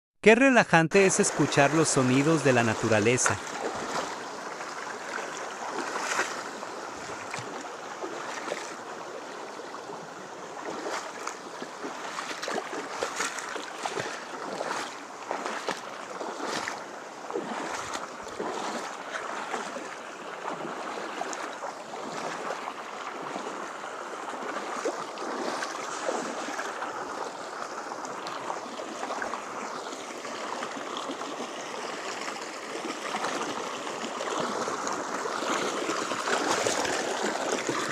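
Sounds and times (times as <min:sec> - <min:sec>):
river water rushing over rocks: 0:00.5 - 0:37.9.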